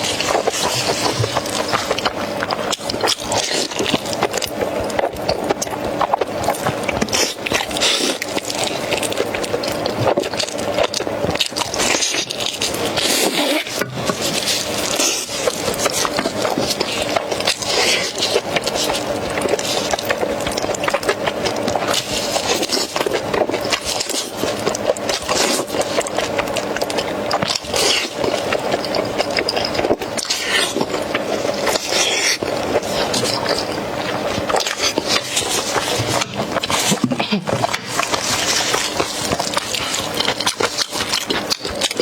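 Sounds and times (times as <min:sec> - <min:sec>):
chewing and gnawing on meat: 0:00.0 - 0:42.0.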